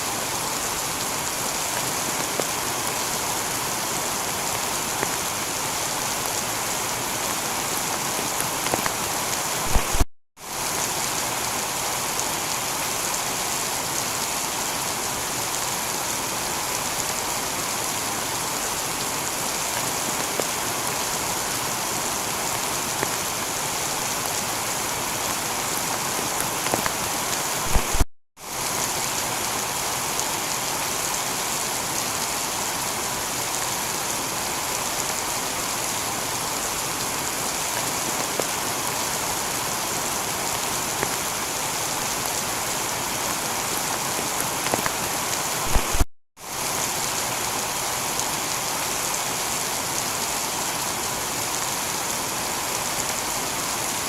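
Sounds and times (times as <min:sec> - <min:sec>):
heavy rain on a tiled roof: 0:00.0 - 0:54.0.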